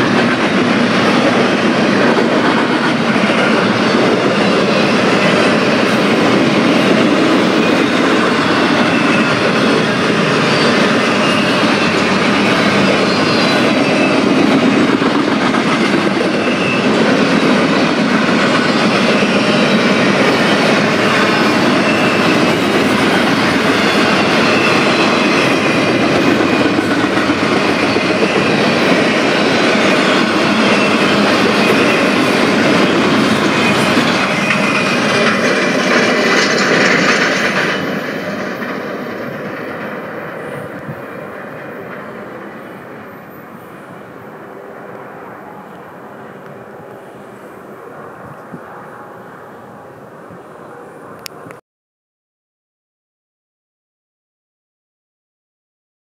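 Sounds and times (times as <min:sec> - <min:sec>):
train wheels rumbling on rail: 0:00.0 - 0:51.6.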